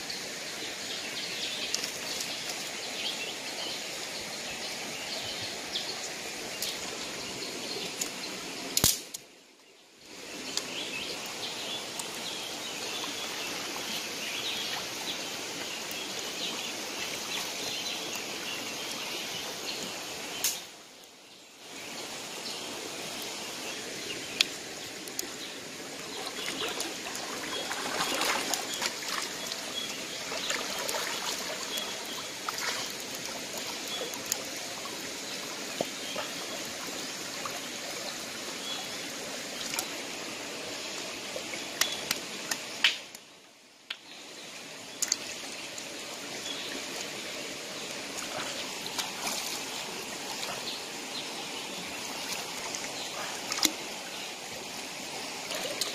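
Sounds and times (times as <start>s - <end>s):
river water over rocks: 0.0s - 55.9s.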